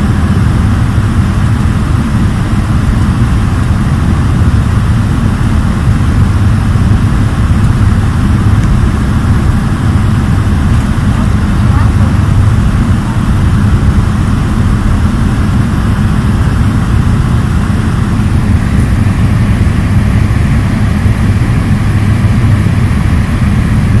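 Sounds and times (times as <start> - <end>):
turboprop engines droning: 0.0 - 24.0.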